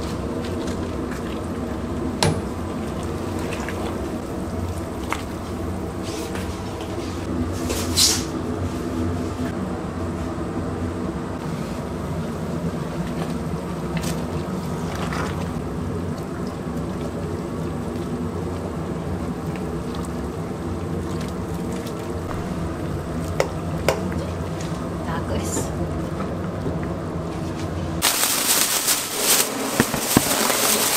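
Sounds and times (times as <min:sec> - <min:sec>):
pot bubbling: 0:00.0 - 0:07.5, 0:11.4 - 0:30.9
low hum: 0:00.0 - 0:28.0.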